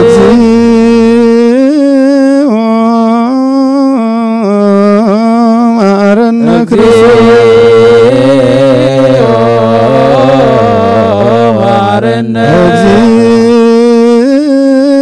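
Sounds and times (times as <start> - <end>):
solo voice chanting: 0.0 - 15.0.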